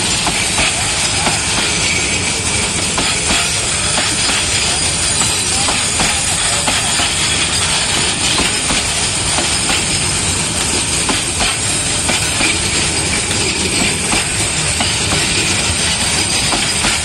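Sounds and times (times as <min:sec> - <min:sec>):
steel wheels rumbling on rails: 0:00.0 - 0:17.0
wheels clacking over rail joints: 0:00.0 - 0:17.0.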